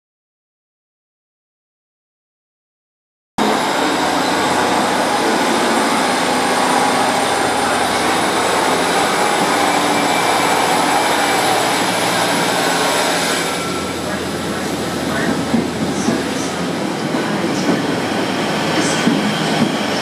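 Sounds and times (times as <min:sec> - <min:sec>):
train running noise: 0:03.4 - 0:20.0.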